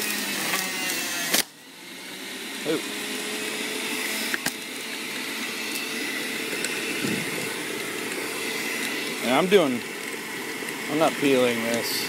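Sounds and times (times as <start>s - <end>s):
electric juicer motor running: 0.0s - 12.0s
juice running out: 2.0s - 12.0s.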